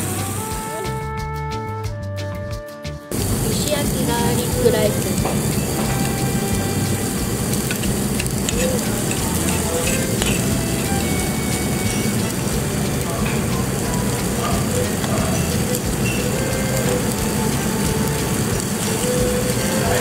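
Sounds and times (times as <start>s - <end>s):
rice sizzling in stone bowl: 0.0s - 1.0s, 3.1s - 20.0s.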